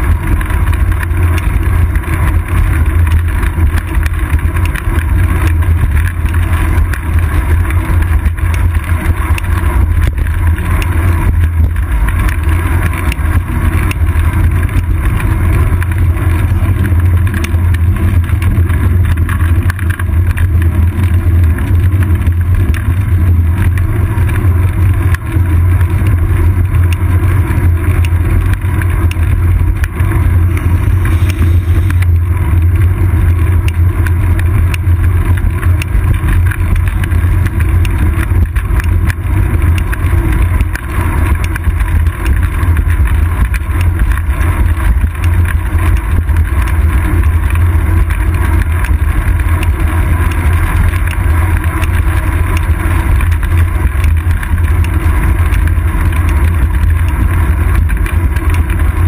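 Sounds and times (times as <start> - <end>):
road vibration rumble: 0.0 - 59.0
wind noise: 0.0 - 59.0.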